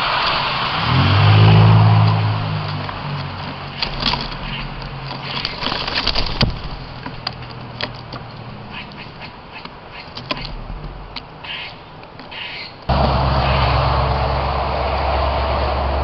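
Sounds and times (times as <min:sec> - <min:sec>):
birds giving harsh calls: 0:00.0 - 0:15.9
low rumble of traffic: 0:00.0 - 0:16.0.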